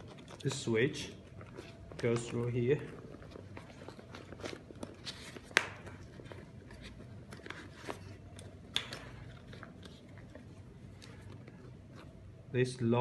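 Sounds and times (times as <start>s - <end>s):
plastic and fabric rustling: 0.0s - 12.5s.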